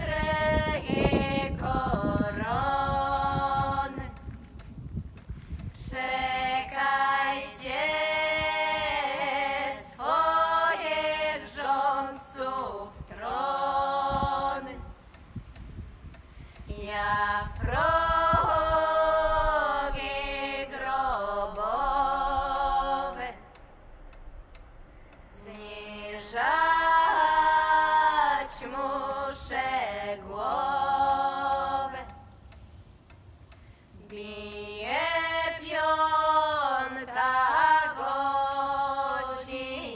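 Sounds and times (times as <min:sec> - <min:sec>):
person singing unaccompanied: 0:00.0 - 0:04.8, 0:05.6 - 0:15.7, 0:16.6 - 0:23.7, 0:25.2 - 0:32.6, 0:33.9 - 0:39.9.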